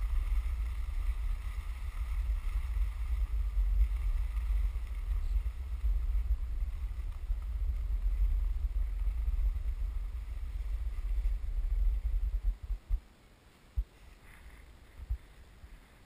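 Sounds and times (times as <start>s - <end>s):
wind buffeting microphone: 0.0s - 13.1s
wind gusts: 0.0s - 16.0s.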